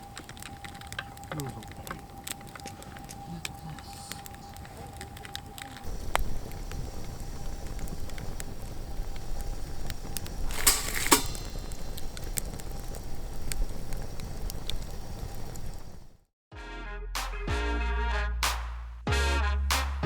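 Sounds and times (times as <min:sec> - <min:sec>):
low rumble: 0:00.0 - 0:16.2
sharp pops: 0:00.0 - 0:16.2
wood fire crackling: 0:00.0 - 0:16.3.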